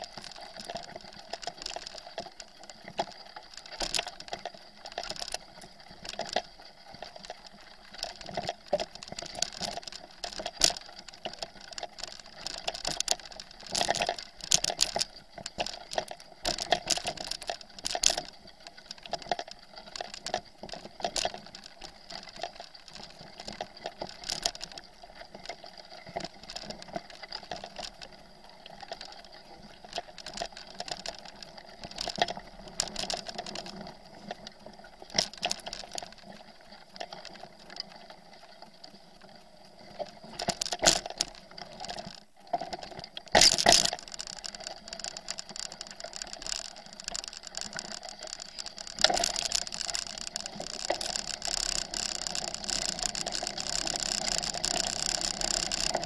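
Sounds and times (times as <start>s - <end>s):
bicycle rattling on rough dirt track: 0.0s - 56.0s.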